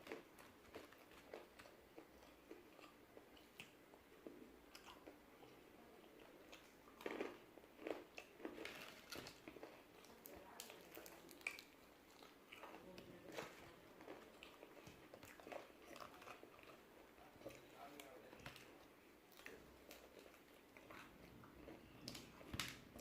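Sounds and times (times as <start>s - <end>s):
person chewing crispy chicken: 0.0s - 5.6s, 6.2s - 23.0s.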